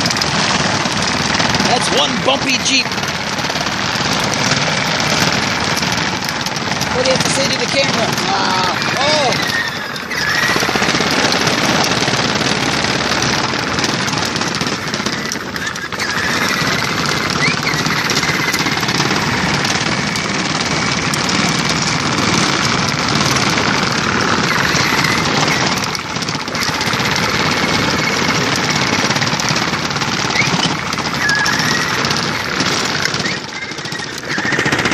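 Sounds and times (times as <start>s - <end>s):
plastic toy car rattling: 0.0s - 34.9s.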